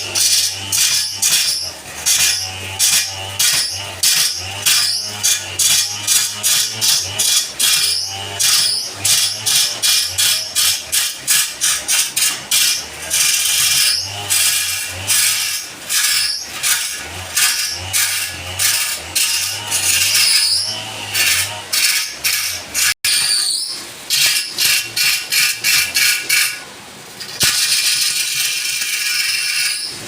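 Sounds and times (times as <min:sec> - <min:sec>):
turning tool scraping wood on lathe: 0:00.0 - 0:30.0.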